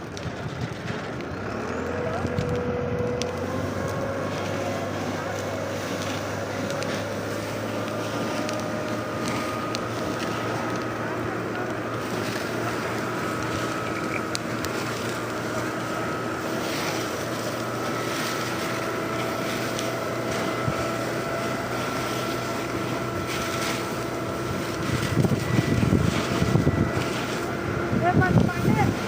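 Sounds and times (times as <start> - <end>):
wind buffeting microphone: 0.0 - 4.3, 8.6 - 29.0
vehicle engine humming: 0.0 - 29.0.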